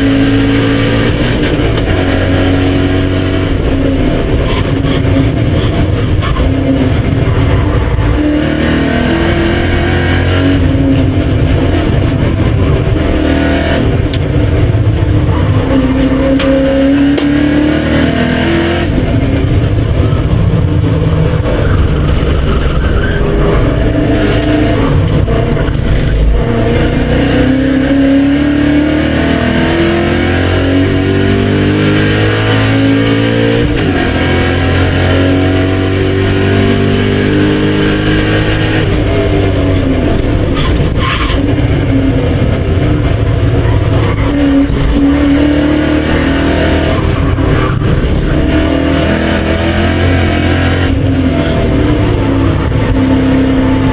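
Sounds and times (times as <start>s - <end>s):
car engine revving at full throttle: 0.0s - 53.9s.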